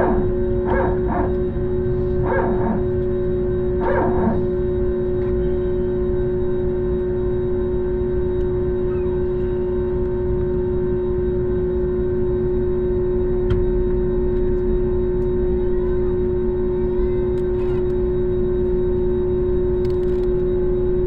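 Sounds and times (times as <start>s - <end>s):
jet engines idling in cabin: 0.0s - 21.0s.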